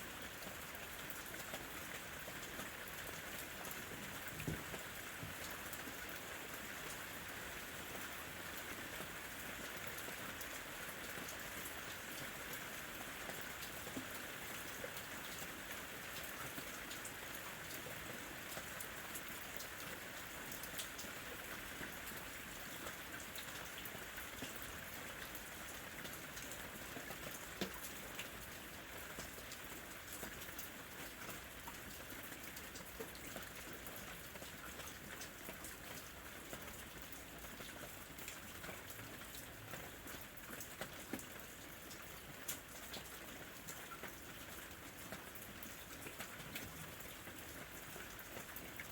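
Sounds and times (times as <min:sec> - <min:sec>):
raindrops ticking on surfaces: 0:00.0 - 0:48.9.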